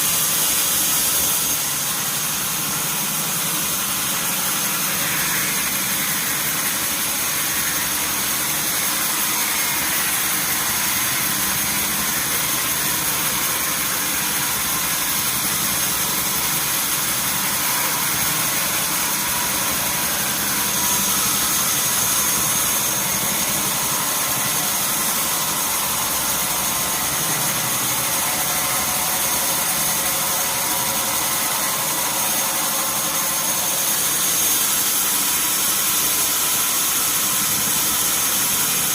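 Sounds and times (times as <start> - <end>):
sawmill machinery with high whine: 0.0 - 38.9.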